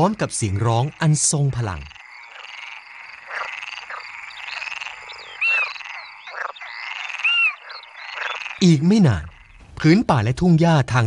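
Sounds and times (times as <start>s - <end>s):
chorus of frogs croaking: 0.0s - 10.1s.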